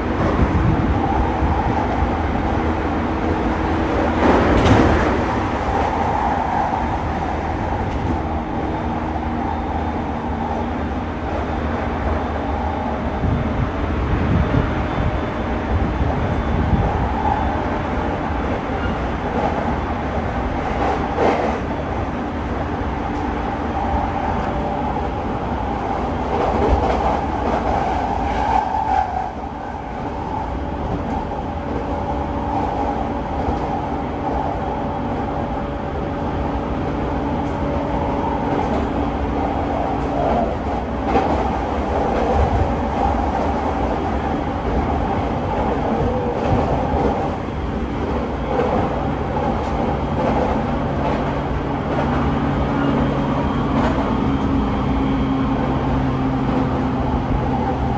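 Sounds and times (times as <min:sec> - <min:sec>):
wheels rumbling on rail: 0:00.0 - 0:57.9.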